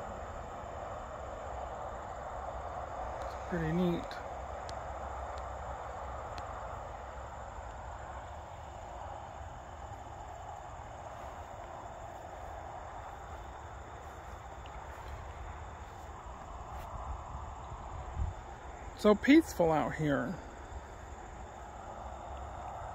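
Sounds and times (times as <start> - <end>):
insects droning: 0.0 - 22.9
wind rumble on microphone: 0.0 - 22.9.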